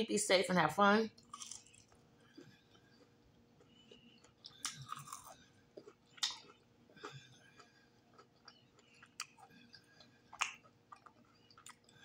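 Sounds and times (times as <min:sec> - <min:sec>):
crunchy chewing: 0:01.2 - 0:12.0.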